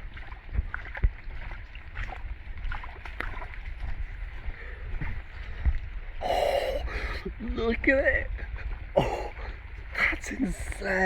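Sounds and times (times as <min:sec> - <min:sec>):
running floodwater: 0:00.0 - 0:11.0.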